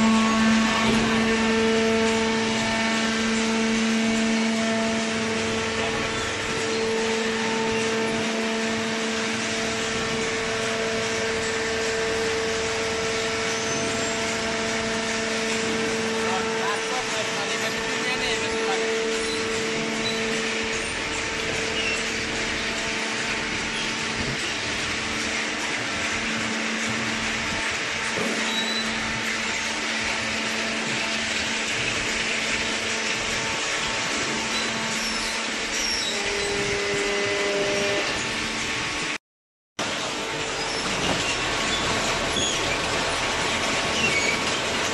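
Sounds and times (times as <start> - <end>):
hydraulic power unit humming: 0.0 - 39.2, 39.8 - 44.9
machinery whirring drone: 0.0 - 39.2.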